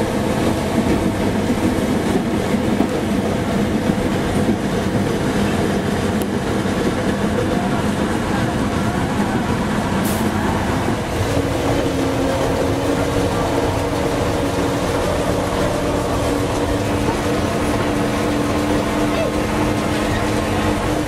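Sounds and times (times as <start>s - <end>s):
train engine hum: 0.0s - 21.0s
train wheels rumbling on rails: 0.0s - 21.0s.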